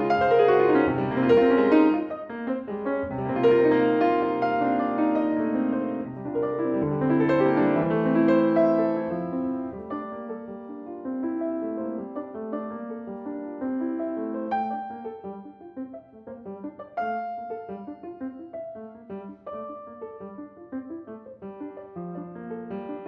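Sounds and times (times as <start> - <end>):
solo piano toccata: 0.0 - 23.0.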